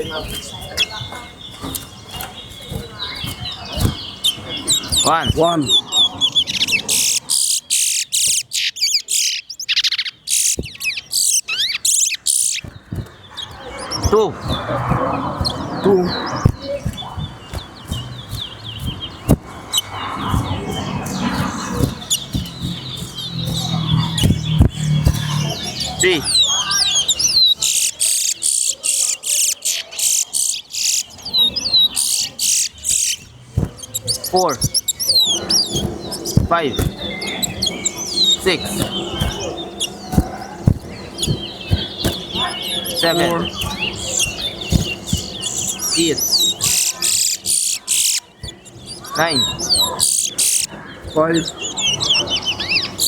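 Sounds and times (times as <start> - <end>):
finch singing high chirps: 0.0 - 53.0
harsh buzzy bird notes: 0.0 - 53.0.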